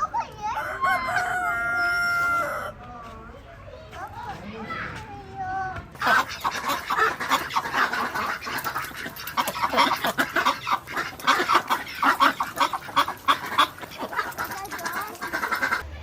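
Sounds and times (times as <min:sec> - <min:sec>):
flock of birds calling: 0:00.0 - 0:05.2, 0:05.8 - 0:16.0.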